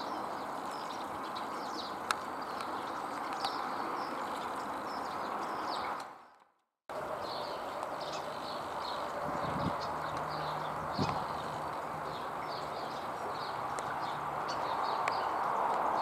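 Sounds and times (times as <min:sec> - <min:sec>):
small birds chirping: 0:00.0 - 0:06.4, 0:07.0 - 0:16.0.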